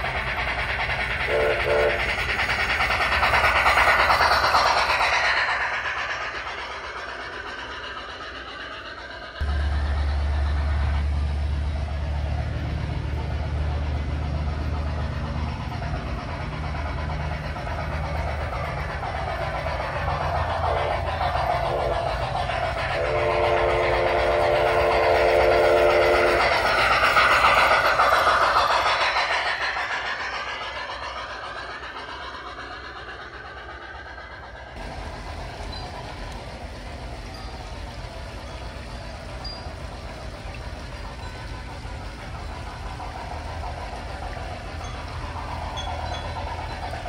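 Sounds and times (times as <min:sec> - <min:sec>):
low engine-like drone: 0:00.0 - 0:47.0
model train wheels on rails: 0:00.0 - 0:47.0.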